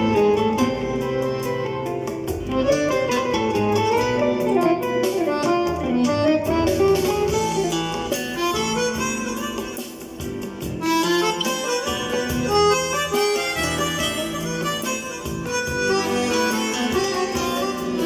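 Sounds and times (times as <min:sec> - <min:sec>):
accordion playing a tune: 0:00.0 - 0:18.0.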